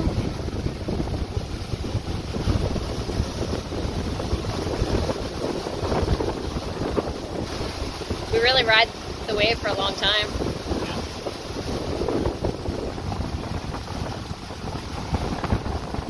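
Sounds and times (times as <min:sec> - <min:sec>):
gale wind buffeting microphone: 0:00.0 - 0:16.0
rough sea rushing past hull: 0:00.0 - 0:16.0.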